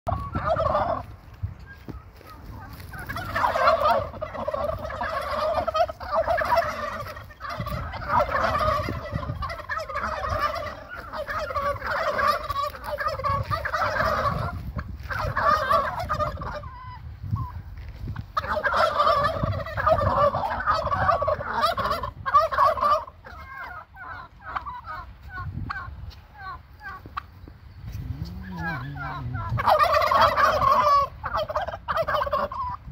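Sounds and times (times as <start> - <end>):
turkeys gobbling: 0.1 - 32.9.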